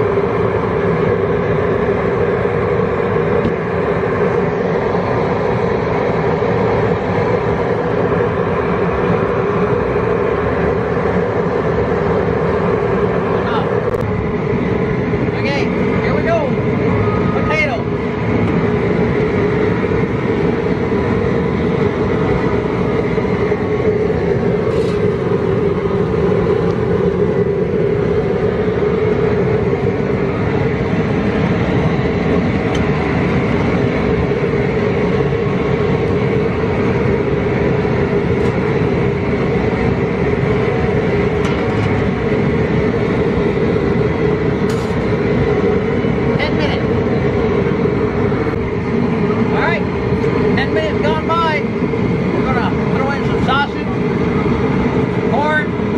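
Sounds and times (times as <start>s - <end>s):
propane burner rushing: 0.0s - 55.9s.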